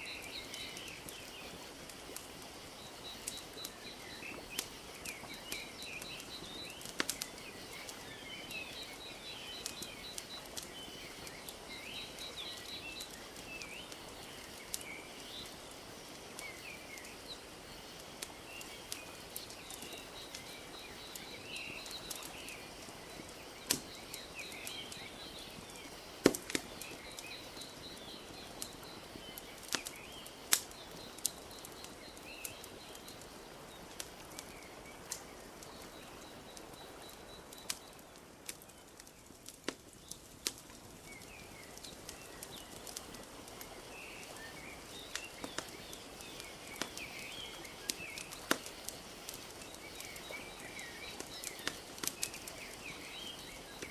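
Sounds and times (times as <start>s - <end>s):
small birds chirping: 0.0s - 53.9s
wood fire crackling and popping: 0.0s - 53.9s.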